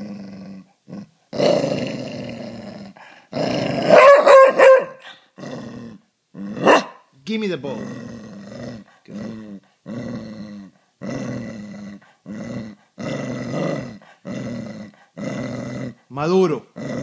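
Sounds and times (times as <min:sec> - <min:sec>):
dog growling: 0:00.0 - 0:07.0, 0:07.6 - 0:17.0.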